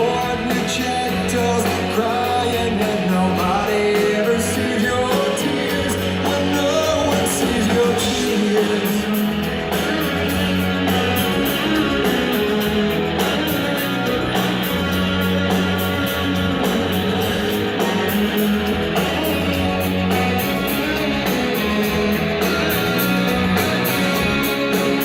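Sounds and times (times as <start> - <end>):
bass: 0.0 - 25.0
drums: 0.0 - 25.0
guitars strummed: 0.0 - 25.0.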